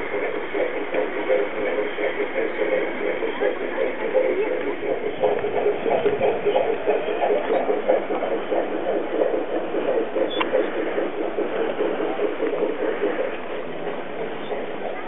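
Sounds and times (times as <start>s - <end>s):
model locomotive throbbing hum: 0.0s - 15.0s.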